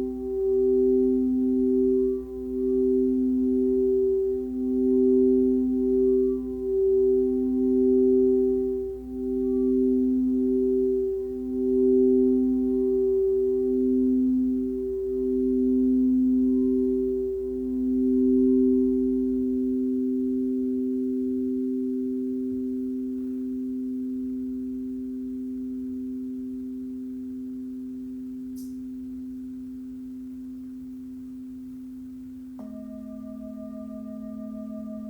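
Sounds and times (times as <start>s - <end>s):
singing bowls ringing: 0.0s - 26.0s, 32.6s - 35.0s.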